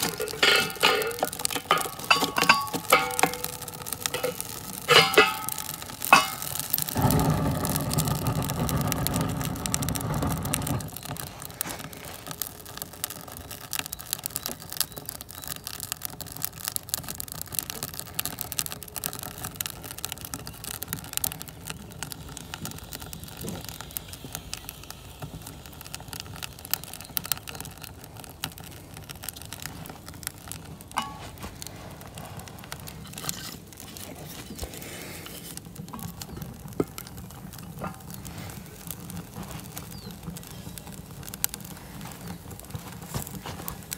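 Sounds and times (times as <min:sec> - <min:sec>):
low steady fire rush: 0:00.0 - 0:43.9
wood fire crackling and popping: 0:00.0 - 0:43.9.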